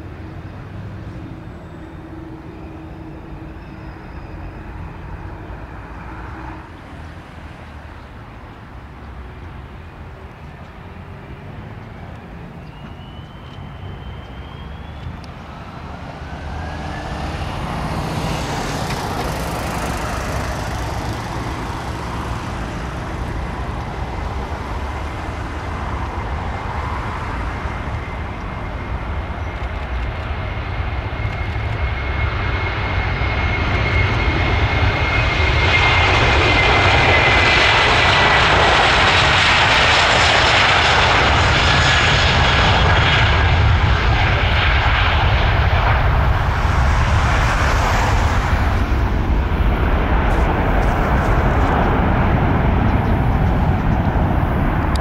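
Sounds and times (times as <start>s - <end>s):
jet airliner taking off: 0.0s - 55.0s.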